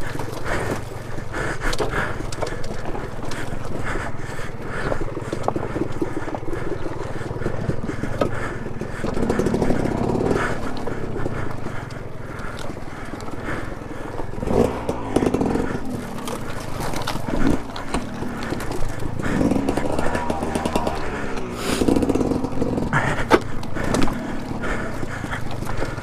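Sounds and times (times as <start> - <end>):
dirt bike rattling and knocking: 0.0 - 26.0
low drivetrain hum: 0.0 - 26.0.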